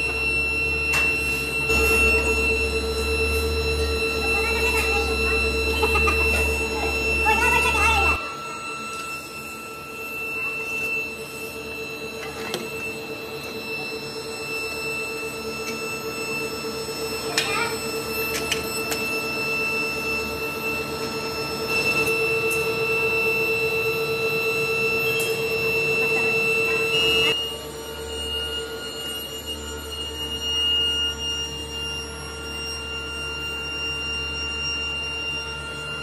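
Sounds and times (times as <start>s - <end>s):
air blower whine: 0.0s - 36.0s.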